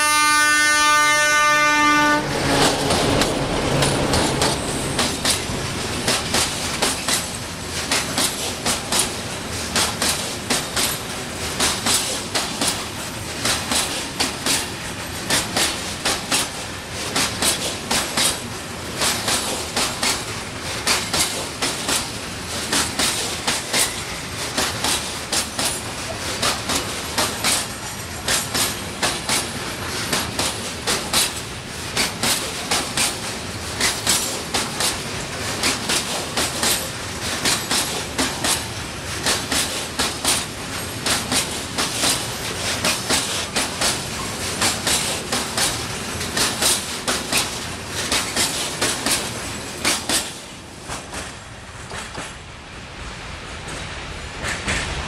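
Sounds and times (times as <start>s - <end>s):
train wheels clacking over joints: 2.4s - 52.4s.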